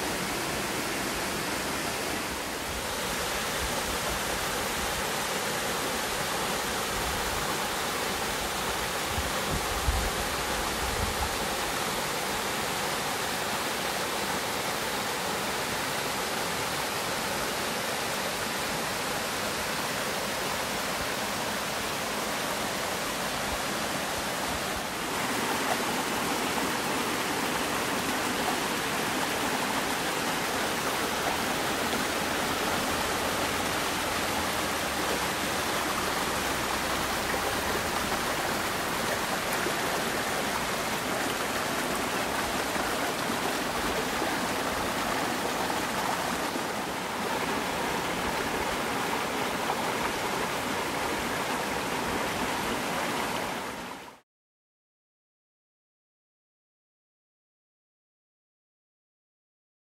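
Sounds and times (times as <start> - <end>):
waterfall rushing: 0.0 - 54.2.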